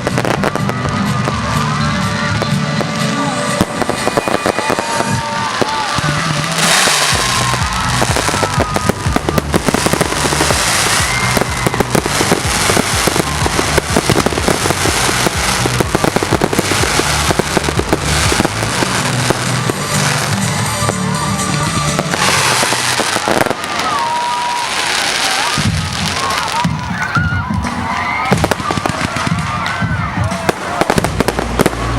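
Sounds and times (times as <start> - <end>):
fireworks bangs and crackling: 0.0 - 31.9
music playing: 0.0 - 31.9.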